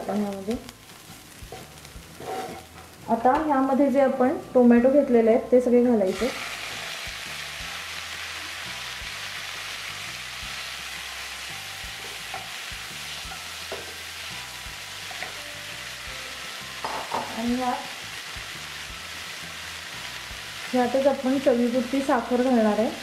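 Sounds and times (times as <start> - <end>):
vegetables sizzling in a pan: 0.0 - 5.2, 5.8 - 23.0.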